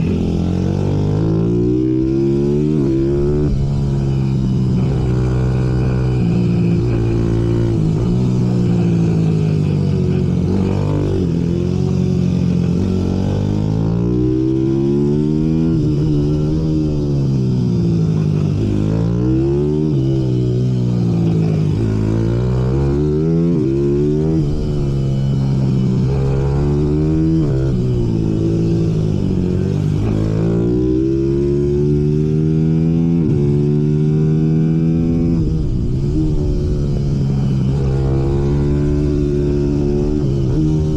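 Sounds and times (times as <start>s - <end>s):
minibike engines revving: 0.0s - 40.9s.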